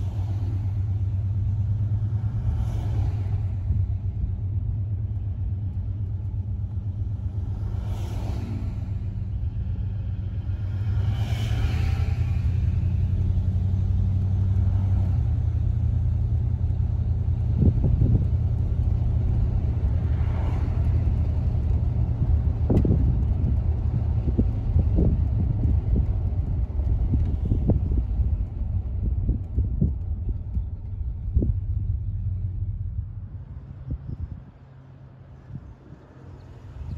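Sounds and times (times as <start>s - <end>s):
car engine and road rumble: 0.0s - 36.9s.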